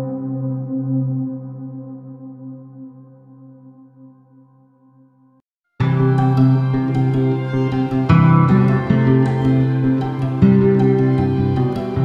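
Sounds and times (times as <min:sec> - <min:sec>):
soft ambient music: 0:00.0 - 0:04.9, 0:05.8 - 0:12.0.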